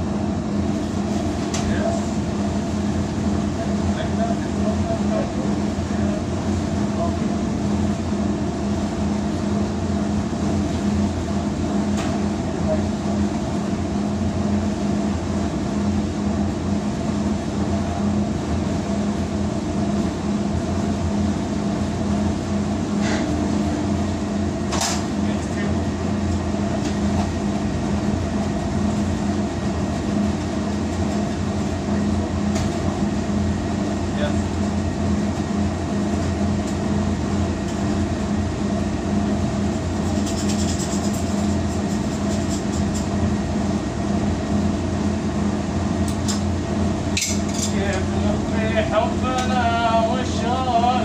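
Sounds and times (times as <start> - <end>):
washing machines humming: 0.0 - 51.0.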